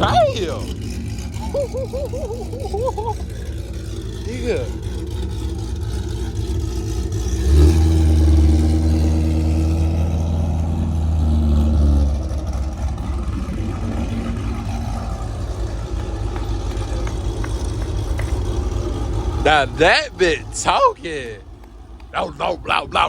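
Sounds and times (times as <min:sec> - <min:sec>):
car engine revving: 0:00.0 - 0:23.0
low engine rumble: 0:00.0 - 0:23.0.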